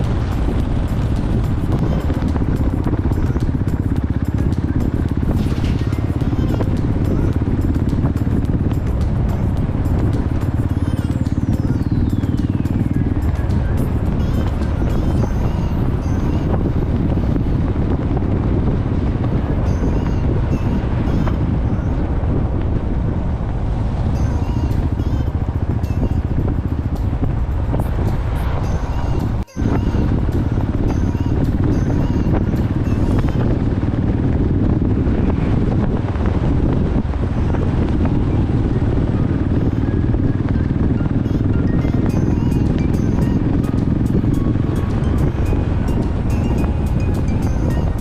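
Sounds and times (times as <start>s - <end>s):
motorcycle riding at speed: 0.0s - 48.0s
road noise: 0.0s - 48.0s
wind rumble on microphone: 0.0s - 48.0s.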